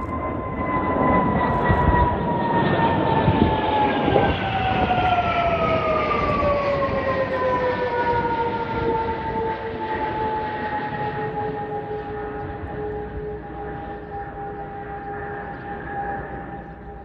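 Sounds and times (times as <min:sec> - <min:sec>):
jet engines passing overhead: 0:00.0 - 0:17.0.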